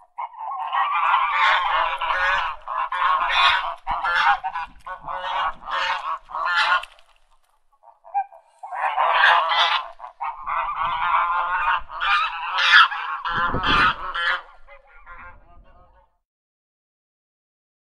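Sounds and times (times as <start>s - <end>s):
ducks quacking: 0.0s - 16.1s.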